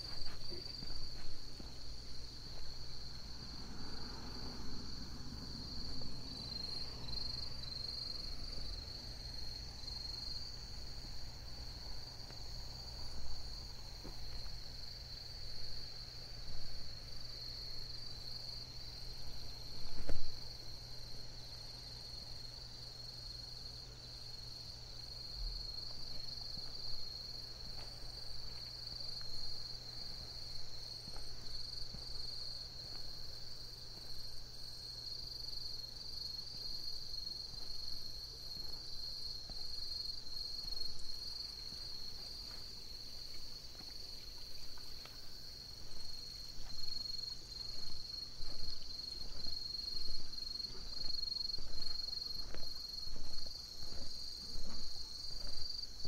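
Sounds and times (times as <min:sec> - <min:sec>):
night insects chirring: 0:00.0 - 0:56.0.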